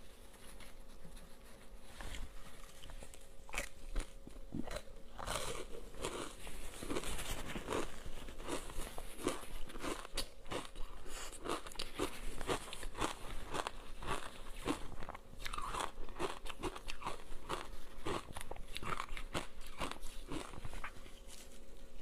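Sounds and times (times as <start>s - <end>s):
ice crunching being chewed: 2.1s - 22.0s.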